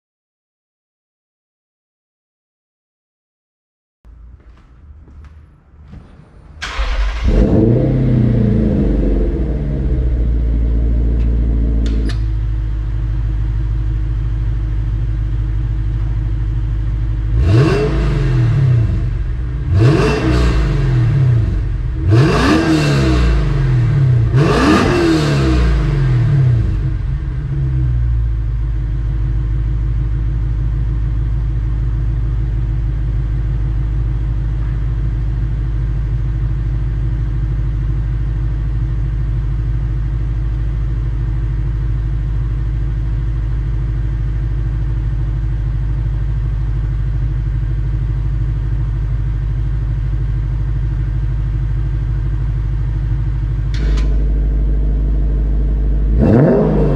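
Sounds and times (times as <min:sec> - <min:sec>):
car engine revving and idling: 0:04.1 - 0:56.9.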